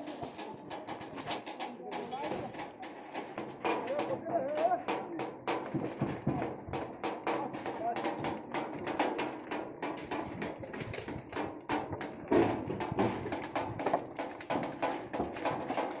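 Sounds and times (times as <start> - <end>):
hammers knocking on wooden planks: 0.0 - 16.0.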